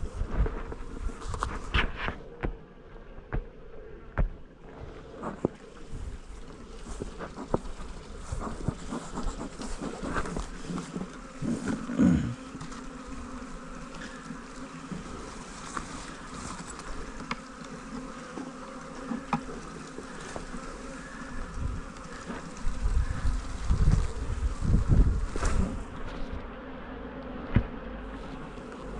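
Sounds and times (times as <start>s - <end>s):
bees buzzing: 0.0s - 28.9s.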